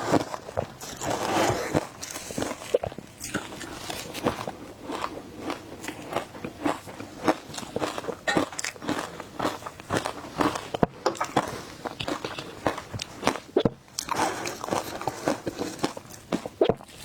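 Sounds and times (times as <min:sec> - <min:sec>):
chewing ice crunches: 0:00.0 - 0:17.0.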